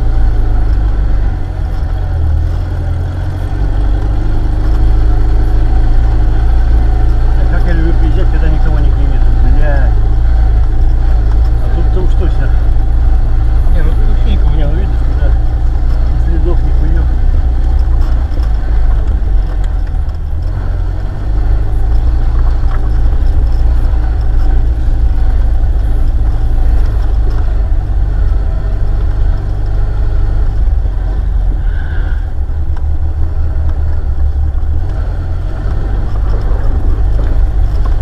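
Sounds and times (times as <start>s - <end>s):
off-road vehicle engine: 0.0s - 38.0s.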